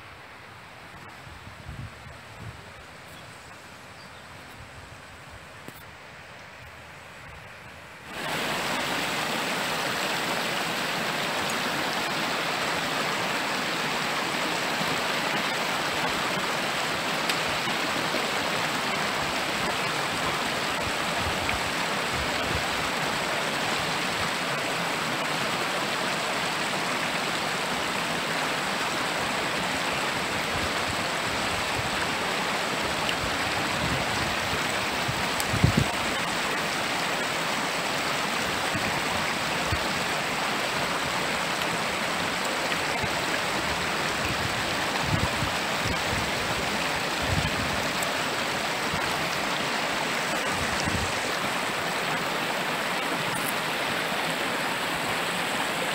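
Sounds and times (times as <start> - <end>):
stream rushing over rocks: 0.0 - 55.9.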